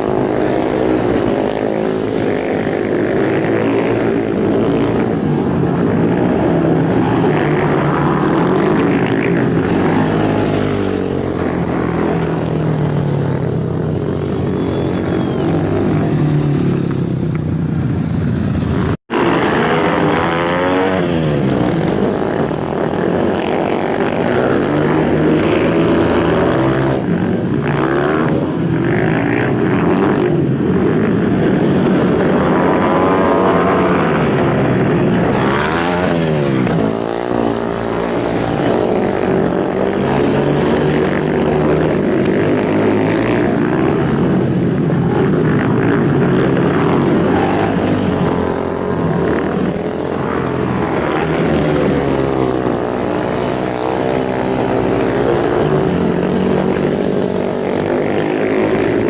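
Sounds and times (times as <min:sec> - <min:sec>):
motorbike passing close: 0:00.0 - 0:59.0
superbike engines at high revs: 0:00.0 - 0:59.0.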